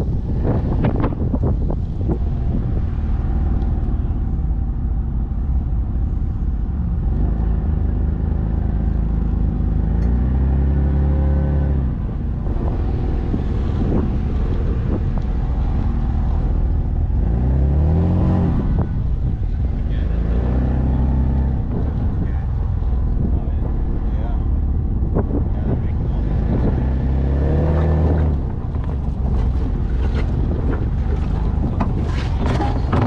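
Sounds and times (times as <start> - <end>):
car engine running at low revs: 0.0 - 33.0
tyres on sandy dirt: 0.0 - 33.0
wind noise on microphone: 0.0 - 33.0.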